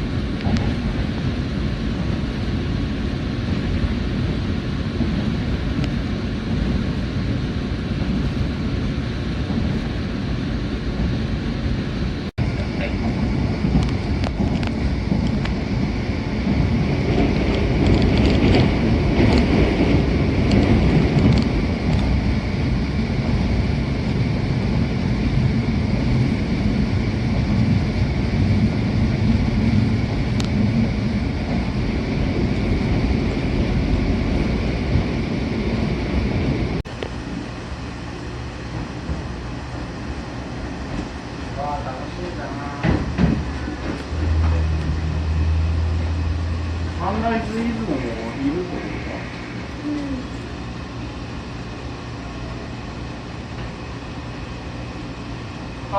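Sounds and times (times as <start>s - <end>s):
train wheels and motors rumbling: 0.0s - 55.9s.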